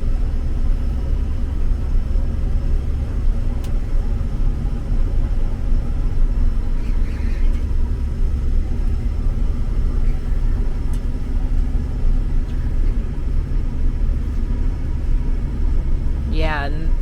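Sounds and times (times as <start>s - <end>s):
combine harvester droning: 0.0s - 17.0s.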